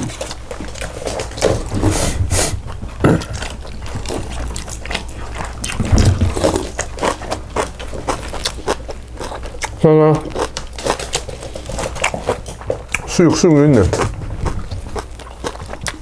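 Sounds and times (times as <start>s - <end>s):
steady low hum: 0.0s - 16.0s
wet chewing and mouth sounds: 0.0s - 16.0s.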